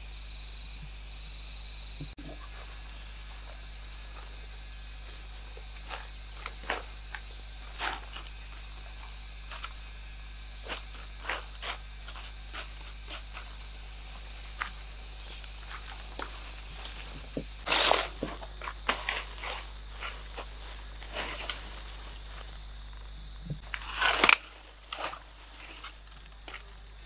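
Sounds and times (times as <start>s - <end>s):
insects droning: 0.0s - 27.0s
dry leaves rustling underfoot: 2.4s - 27.0s.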